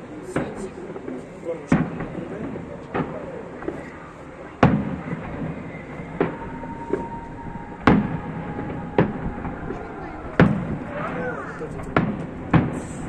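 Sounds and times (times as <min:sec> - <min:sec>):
faint fireworks pops: 0:00.2 - 0:13.0.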